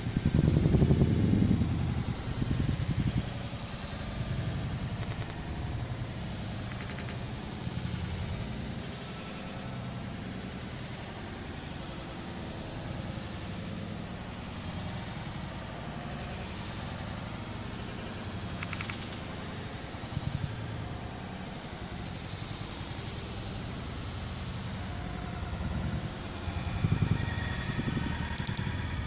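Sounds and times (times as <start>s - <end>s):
city traffic rumble: 0.0s - 29.0s
vehicle passing: 0.0s - 29.0s.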